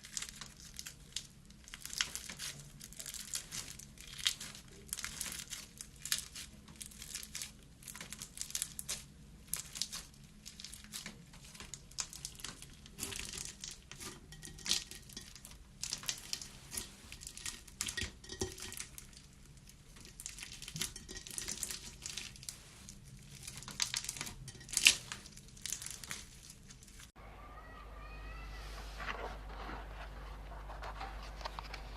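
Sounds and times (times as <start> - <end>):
slime crackling and popping: 0.0 - 27.2.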